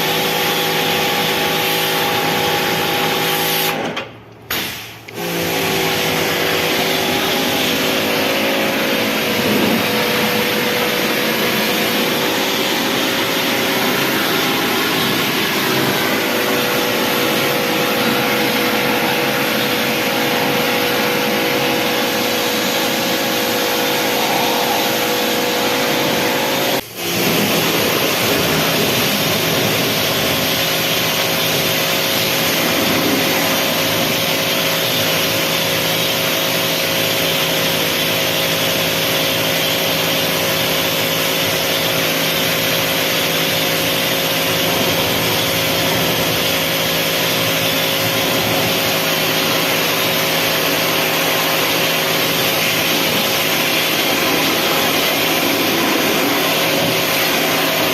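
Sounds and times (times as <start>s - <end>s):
pressure washer running: 0.0s - 57.9s.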